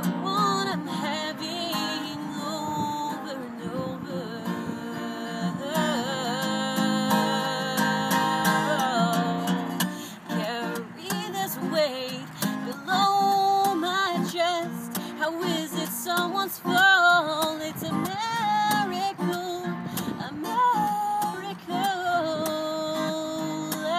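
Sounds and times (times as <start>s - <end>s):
acoustic guitar strumming: 0.0s - 23.9s
woman singing slow song: 0.0s - 23.9s.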